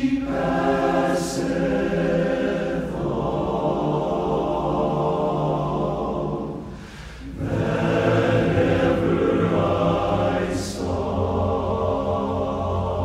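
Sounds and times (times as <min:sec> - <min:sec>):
men's chorus singing a cappella: 0:00.0 - 0:13.0.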